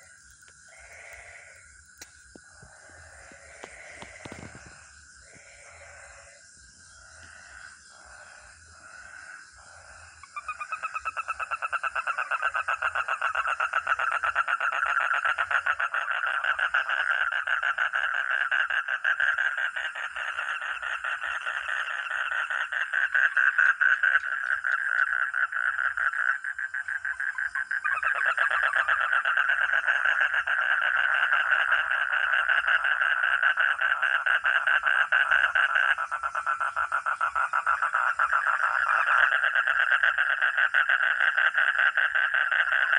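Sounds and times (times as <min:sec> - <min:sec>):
frog calling: 0:00.0 - 0:42.9.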